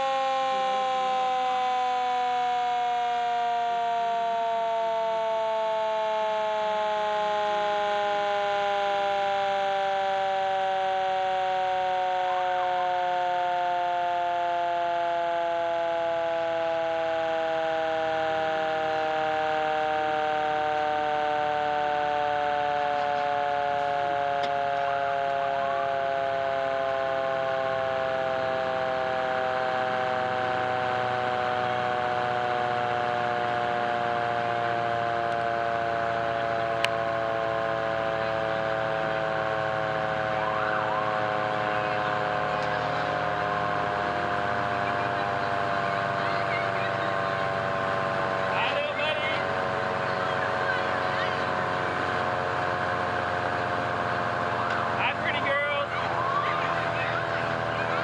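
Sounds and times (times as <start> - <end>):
fire truck siren wailing: 0.0 - 58.0.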